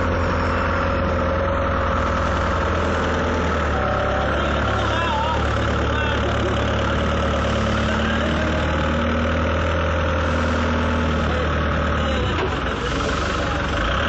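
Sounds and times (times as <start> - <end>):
forklift engines idling: 0.0 - 14.0.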